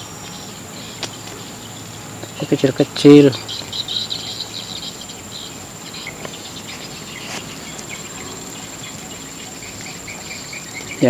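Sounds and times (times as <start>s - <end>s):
insect chirps: 0.0s - 11.0s
insect high-pitched drone: 0.0s - 11.0s.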